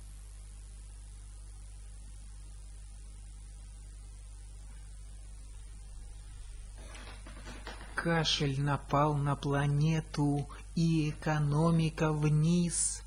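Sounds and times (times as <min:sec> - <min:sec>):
background hiss: 0:00.0 - 0:13.0
electrical mains hum: 0:00.0 - 0:13.0.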